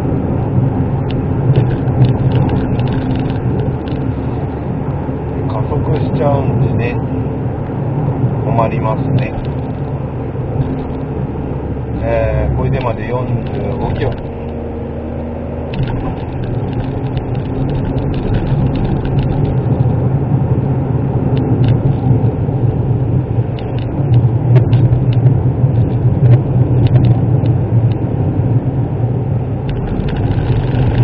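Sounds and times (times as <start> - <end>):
car engine running: 0.0 - 31.0
tyre and road noise: 0.0 - 31.0.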